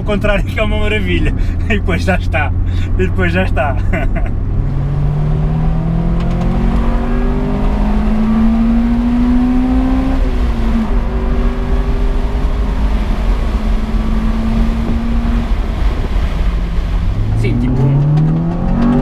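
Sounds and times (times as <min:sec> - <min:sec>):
car engine revving high: 0:01.3 - 0:19.0.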